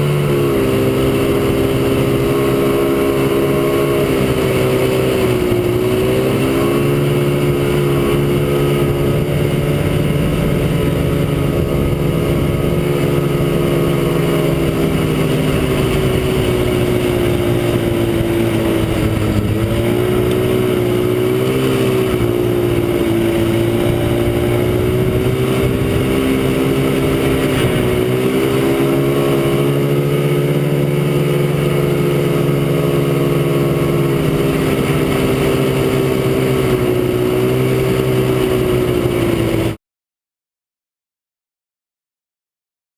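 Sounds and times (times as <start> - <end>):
snowmobile engine running: 0.0 - 39.8.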